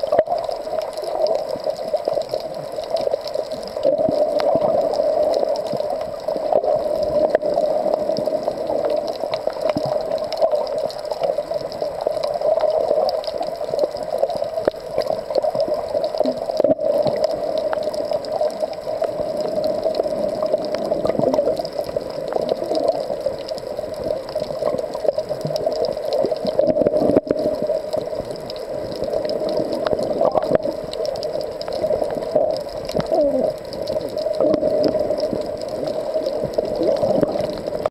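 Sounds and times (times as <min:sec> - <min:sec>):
faint clicks: 0:00.0 - 0:37.9
muffled underwater rush: 0:00.0 - 0:37.9
water gurgles: 0:00.0 - 0:37.9.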